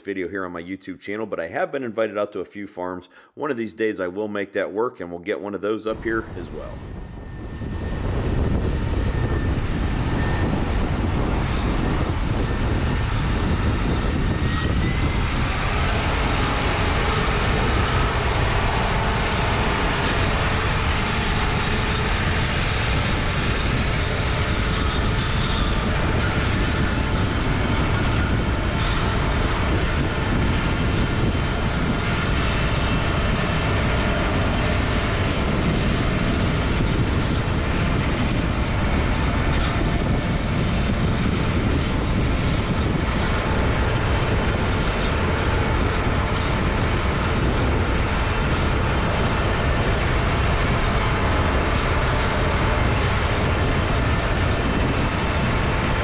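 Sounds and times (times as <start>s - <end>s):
diesel farm machinery running: 6.3s - 56.0s.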